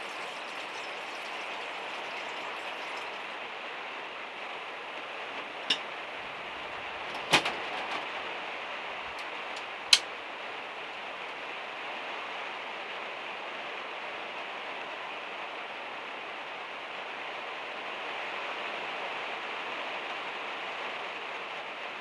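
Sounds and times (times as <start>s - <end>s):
rain on a metal roof: 0.0s - 22.0s.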